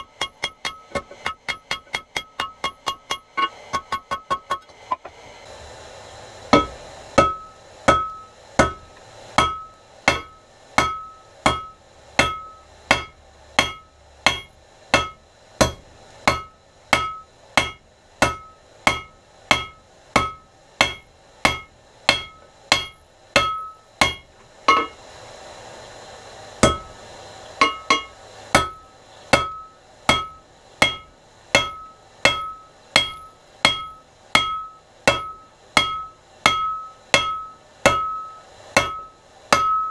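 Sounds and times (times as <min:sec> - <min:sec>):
hammer striking iron on anvil: 0:00.0 - 0:05.1, 0:06.5 - 0:25.0, 0:26.6 - 0:27.0, 0:27.6 - 0:39.9.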